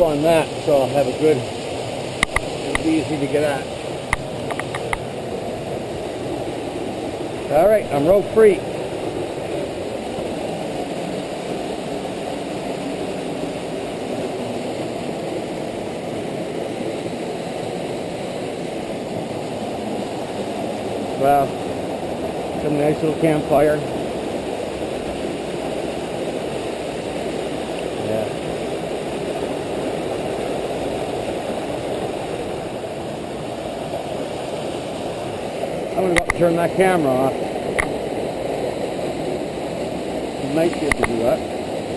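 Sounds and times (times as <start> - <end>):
waterfall roaring: 0.0 - 41.9.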